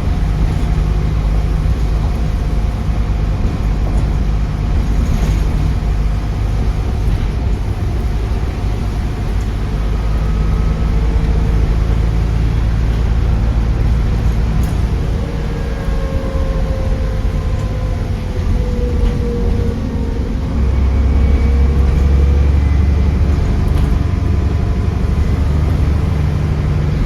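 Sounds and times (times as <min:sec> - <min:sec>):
bus diesel engine hum: 0:00.0 - 0:27.0
road noise: 0:00.0 - 0:27.0.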